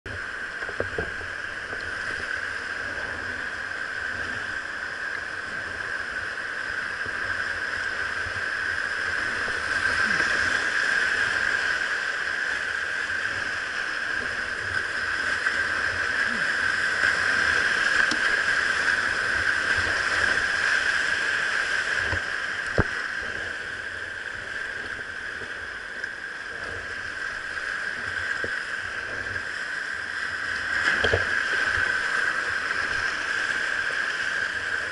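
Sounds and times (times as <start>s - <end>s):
rushing whitewater: 0.1s - 34.9s.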